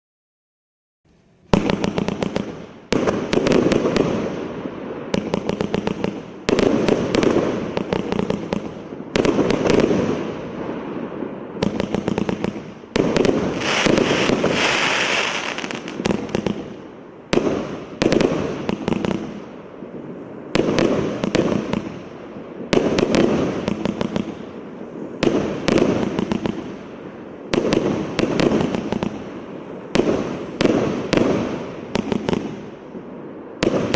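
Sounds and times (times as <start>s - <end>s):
fireworks hissing and crackling: 1.5s - 33.9s
fireworks shots firing: 1.5s - 33.9s.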